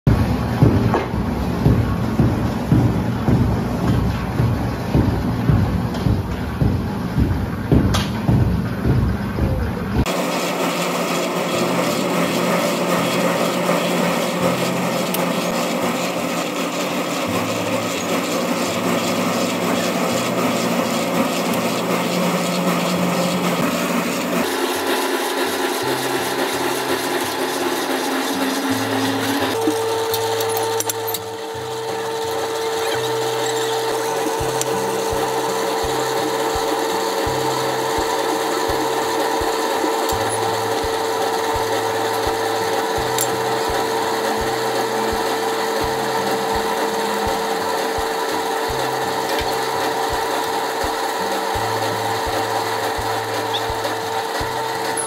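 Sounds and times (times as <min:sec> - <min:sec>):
steady hum: 0:00.1 - 0:55.0.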